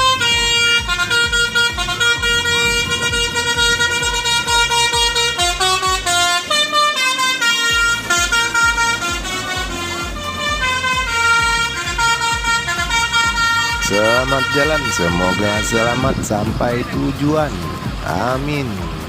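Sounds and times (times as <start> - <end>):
melodic air horns playing a tune: 0.0 - 18.4
low thumping beat: 0.0 - 19.0.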